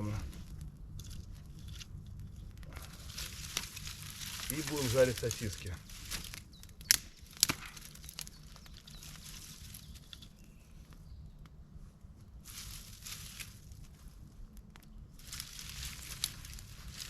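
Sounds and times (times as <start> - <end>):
dry twigs snapping: 0.0 - 11.6, 12.4 - 17.0
twigs and brush rustling: 0.0 - 17.0.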